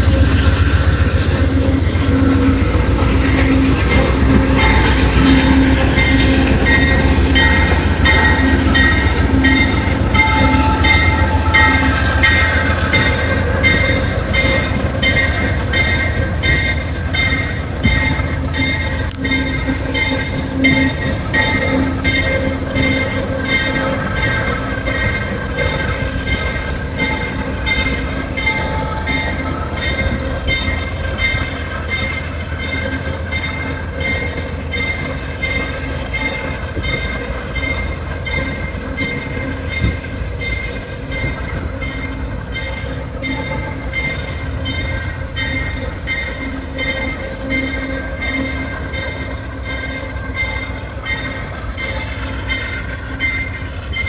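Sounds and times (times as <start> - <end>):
high ringing whine: 0.0 - 54.0
train rumbling: 0.0 - 54.0
wheels clicking over rail joints: 0.0 - 54.0.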